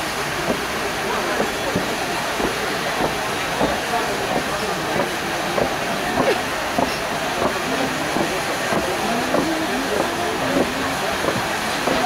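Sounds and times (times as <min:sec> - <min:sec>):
fireworks fountains hissing: 0:00.0 - 0:12.0.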